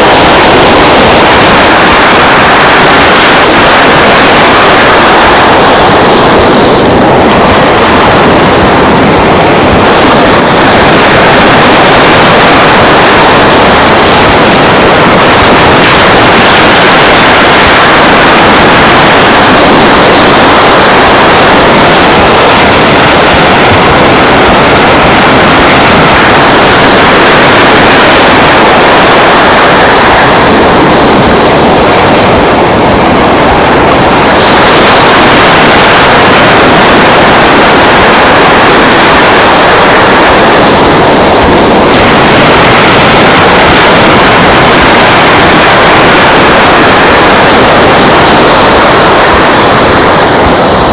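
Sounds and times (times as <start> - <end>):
surf rushing: 0.0 - 50.9
wind: 0.0 - 50.9.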